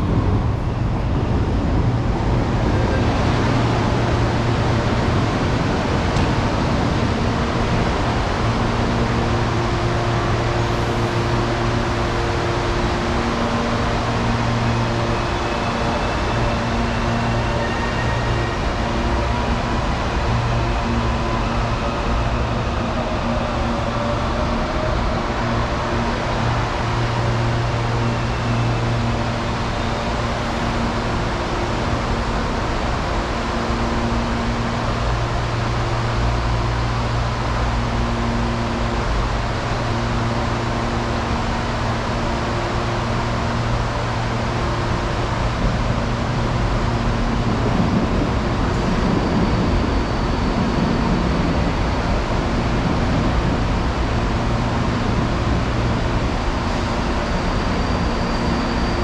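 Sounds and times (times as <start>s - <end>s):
electric train humming and rumbling: 0.0s - 59.0s
faint high whine: 0.0s - 59.0s.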